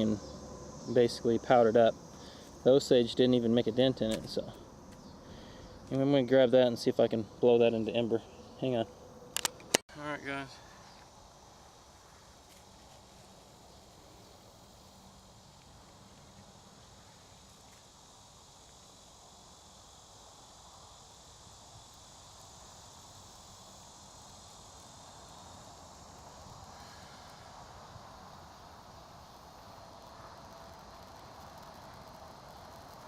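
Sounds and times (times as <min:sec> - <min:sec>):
high insect drone: 0:00.0 - 0:33.0.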